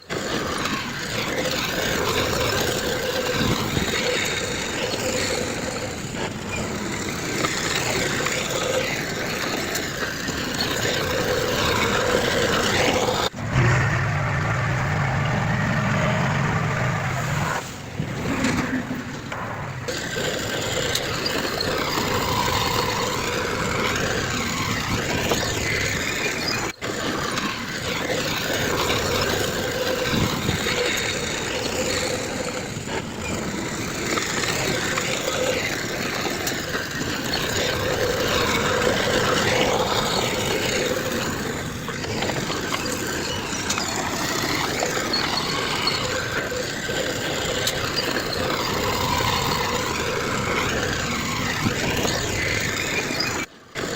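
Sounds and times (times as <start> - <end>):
construction machinery diesel engines: 0.0 - 53.9.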